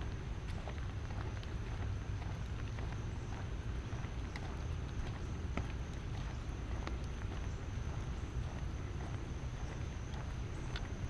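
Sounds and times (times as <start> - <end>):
light rain drops ticking: 0.0 - 11.0.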